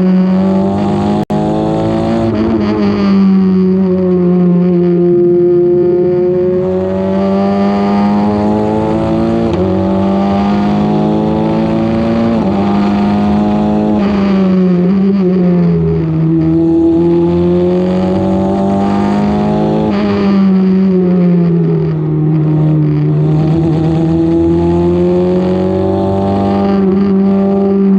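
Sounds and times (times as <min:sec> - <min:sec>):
race car engine changing gear: 0:00.2 - 0:27.9.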